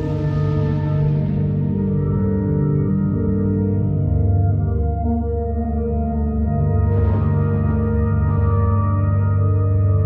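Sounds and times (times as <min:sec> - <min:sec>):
ambient music with low drone: 0:00.0 - 0:10.0.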